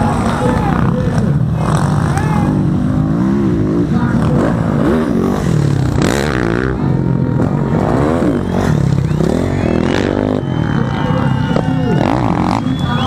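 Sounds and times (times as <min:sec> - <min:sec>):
low rumble of bikes: 0:00.0 - 0:13.0
motocross engines revving: 0:00.0 - 0:13.0.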